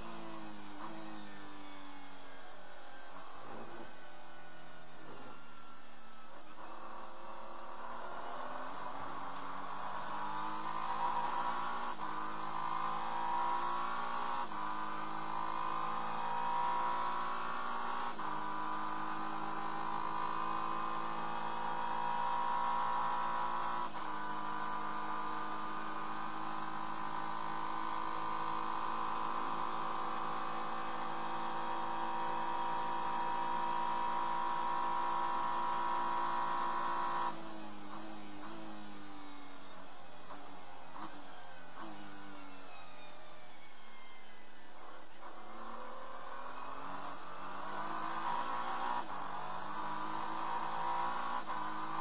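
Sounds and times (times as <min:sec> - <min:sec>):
race car engine accelerating: 0:00.0 - 0:52.0.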